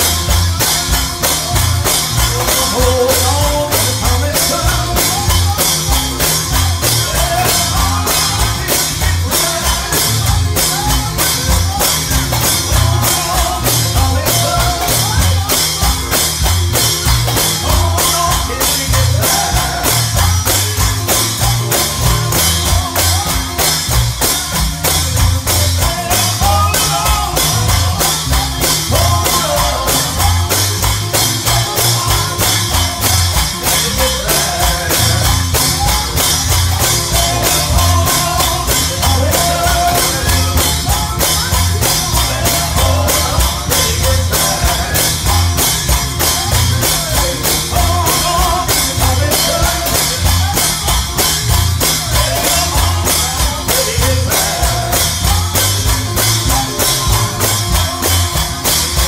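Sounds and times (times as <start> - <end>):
bass line: 0.0 - 59.0
drum kit beat: 0.0 - 59.0.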